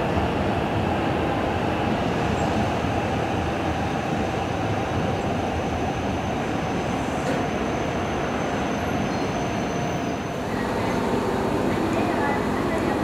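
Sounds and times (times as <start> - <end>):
electric train noise: 0.0 - 13.0.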